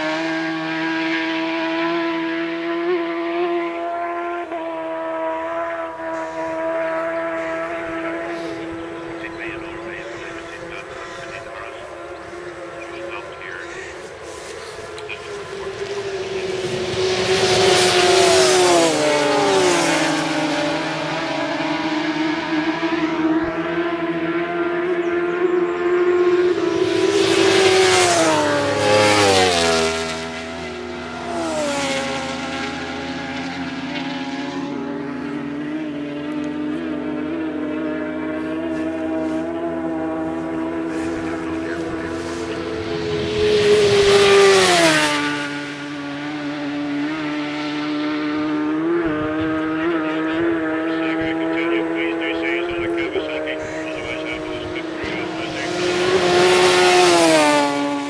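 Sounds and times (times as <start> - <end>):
racing motorcycle passing at high revs: 0.0 - 58.0.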